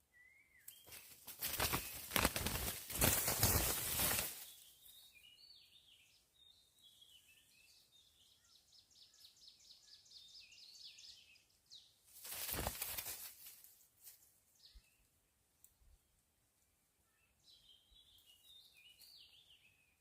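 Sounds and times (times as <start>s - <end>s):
small birds chirping: 0.0s - 15.2s, 17.0s - 20.0s.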